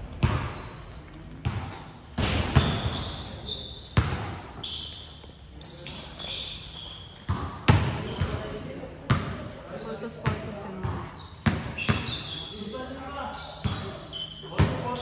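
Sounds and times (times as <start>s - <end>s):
basketball bouncing on a court: 0.0s - 5.2s, 5.8s - 12.8s, 13.4s - 15.0s.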